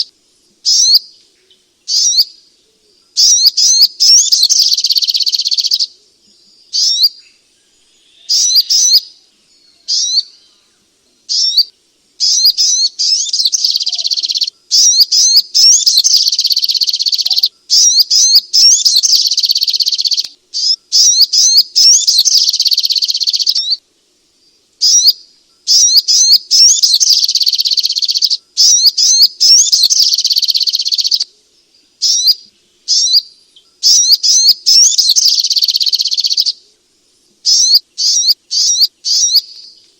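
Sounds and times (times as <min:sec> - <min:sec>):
songbird twittering and chirping: 0:00.0 - 0:39.9.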